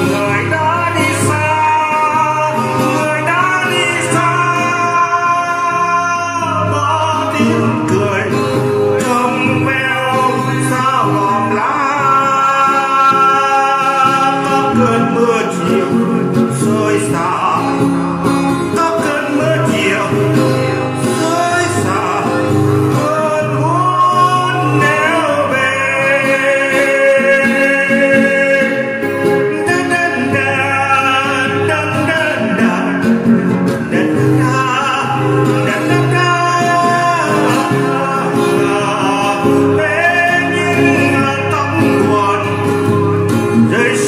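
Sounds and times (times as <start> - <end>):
guitar accompaniment: 0.0 - 44.0
man singing: 0.0 - 44.0.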